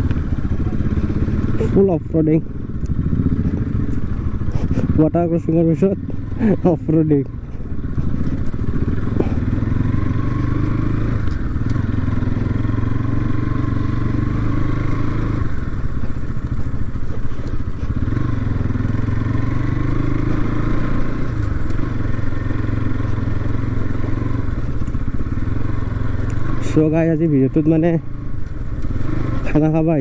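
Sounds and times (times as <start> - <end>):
motorcycle engine on dirt track: 0.0 - 30.0.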